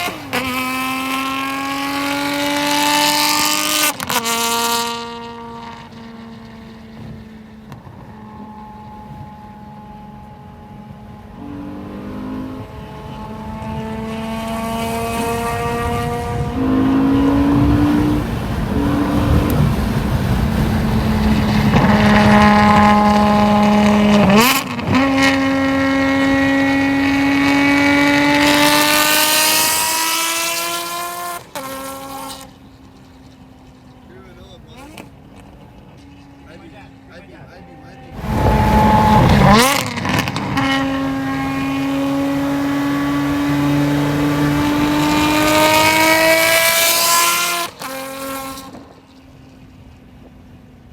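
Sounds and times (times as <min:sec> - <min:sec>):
sports car engine accelerating: 0:00.0 - 0:50.9.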